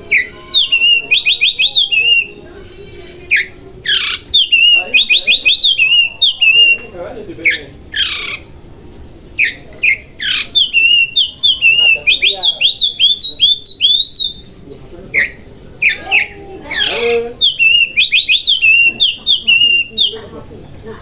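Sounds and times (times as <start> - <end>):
bird singing whistled notes: 0.0 - 2.4, 3.3 - 8.4, 9.1 - 20.3
bird harsh rasping notes: 0.0 - 20.4.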